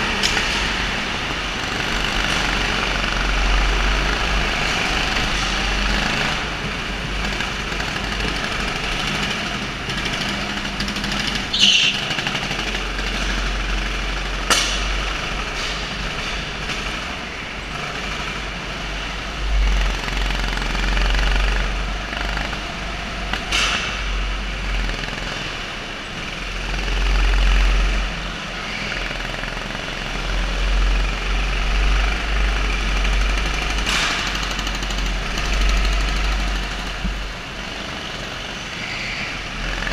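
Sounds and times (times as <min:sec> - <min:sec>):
go-kart engines running: 0:00.0 - 0:39.9.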